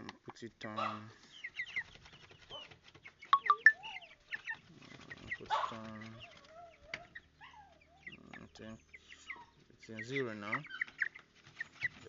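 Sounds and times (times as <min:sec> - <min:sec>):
chickens peeping and clucking: 0:00.0 - 0:12.0.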